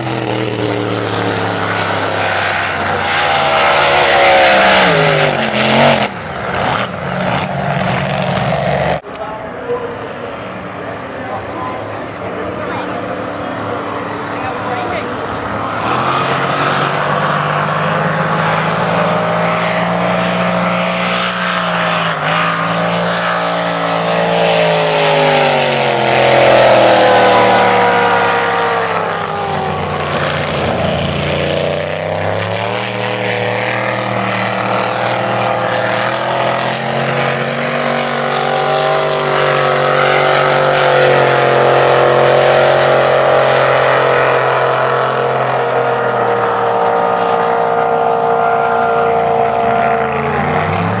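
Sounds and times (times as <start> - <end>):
racing powerboat engines: 0.0 - 51.0.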